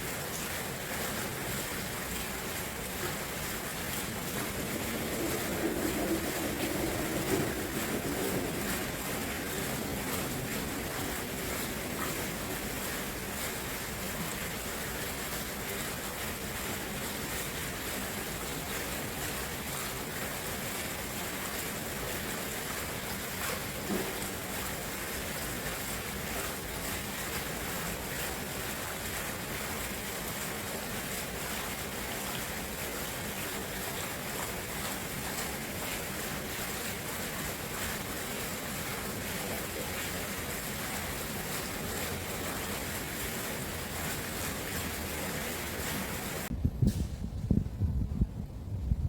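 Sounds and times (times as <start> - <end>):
flowing water rushing: 0.0 - 46.5.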